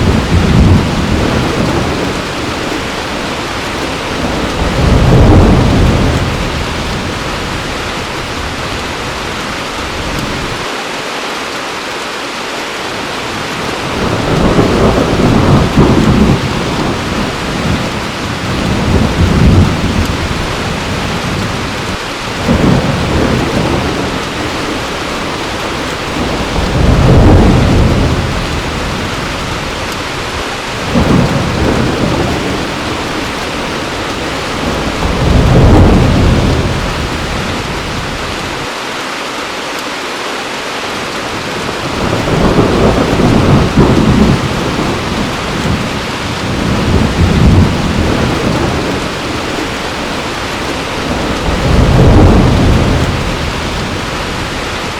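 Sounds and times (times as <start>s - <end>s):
rolling thunder: 0.0s - 10.6s, 13.4s - 38.7s, 41.4s - 54.9s
heavy rain falling: 0.0s - 54.9s.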